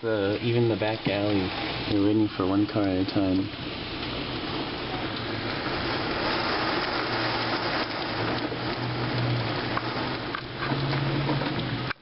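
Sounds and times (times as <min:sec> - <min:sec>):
heavy rain pouring: 0:00.0 - 0:12.0
traffic engines humming: 0:00.0 - 0:12.0.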